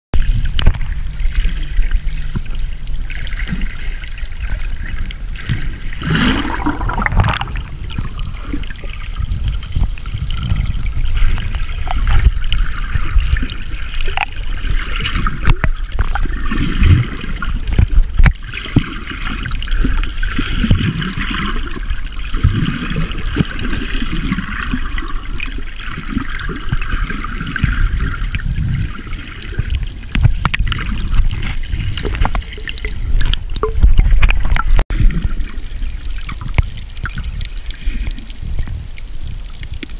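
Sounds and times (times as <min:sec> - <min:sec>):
underwater low rumble: 0:00.1 - 0:39.9
churning water: 0:00.2 - 0:39.9.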